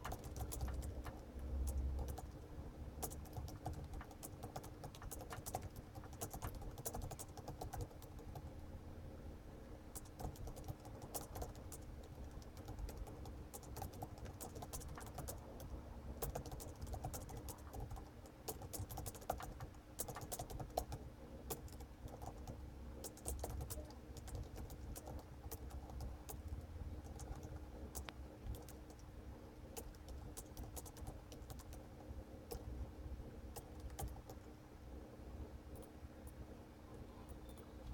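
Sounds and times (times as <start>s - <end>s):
computer keyboard typing: 0.0s - 8.6s, 9.9s - 29.1s, 29.7s - 32.8s, 33.5s - 34.6s
low steady hum: 0.0s - 37.9s.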